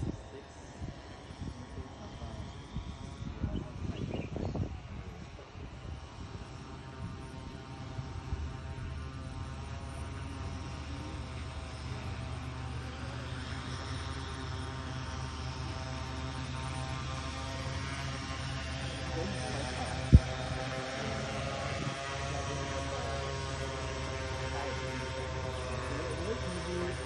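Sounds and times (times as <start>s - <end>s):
drone rotors whirring: 0.0s - 27.0s.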